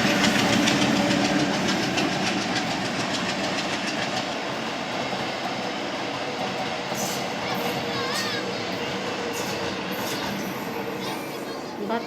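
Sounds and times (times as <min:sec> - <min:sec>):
wheels clacking over rail joints: 0:00.0 - 0:10.8
train rumble: 0:00.0 - 0:12.0.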